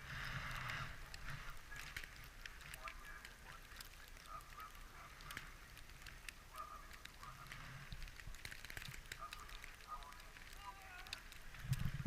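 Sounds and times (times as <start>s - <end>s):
scattered clicks: 0.5s - 12.0s.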